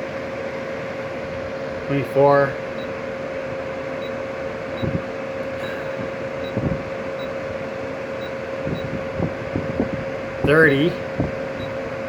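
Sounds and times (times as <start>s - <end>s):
air conditioner fan whoosh and hum: 0.0s - 12.0s.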